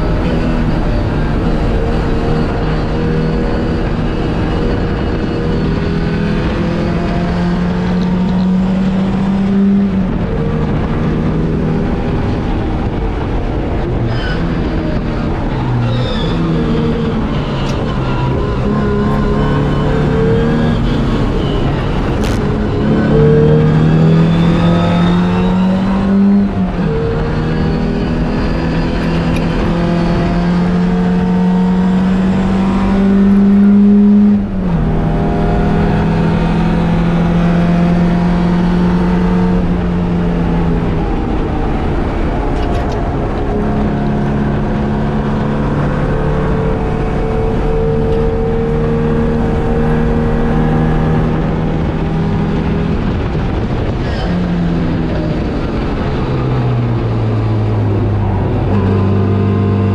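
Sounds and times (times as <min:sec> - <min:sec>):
racing car engine at full throttle: 0:00.0 - 0:59.9.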